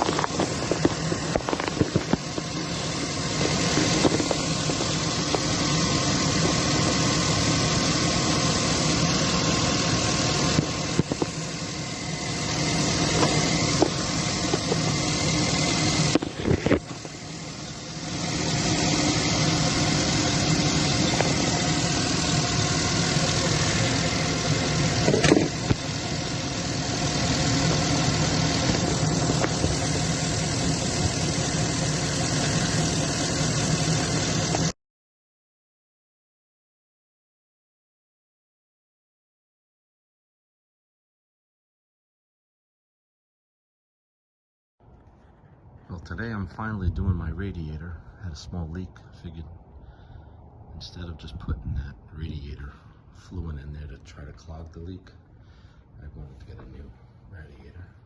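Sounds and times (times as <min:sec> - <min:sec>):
engine idling: 0:00.0 - 0:34.8, 0:44.8 - 0:58.0.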